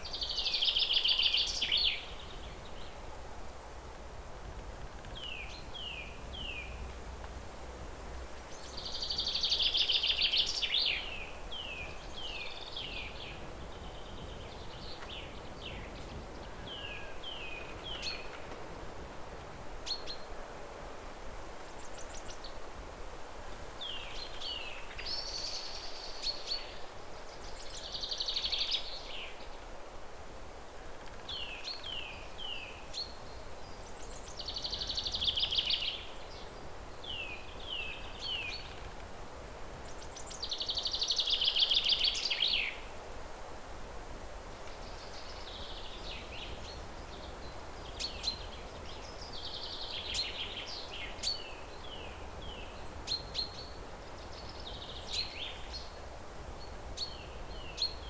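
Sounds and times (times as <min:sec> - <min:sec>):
low background noise: 0:00.0 - 0:58.0
songbirds chirping: 0:00.0 - 0:58.0.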